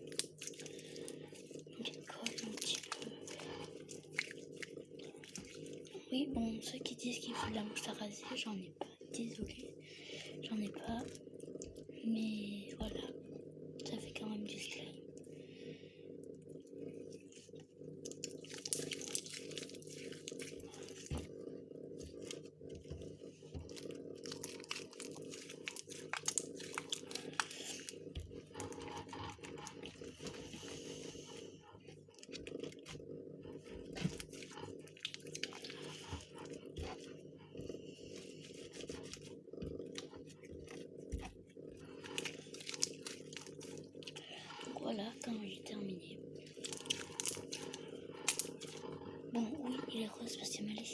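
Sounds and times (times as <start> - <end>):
hands squishing slime: 0.0 - 13.2, 17.1 - 21.4, 22.0 - 45.8, 46.4 - 50.8.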